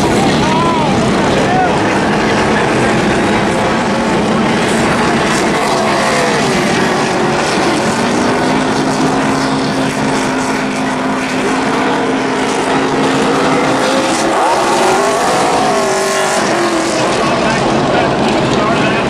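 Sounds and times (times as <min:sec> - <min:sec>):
racing truck engines: 0:00.0 - 0:19.0.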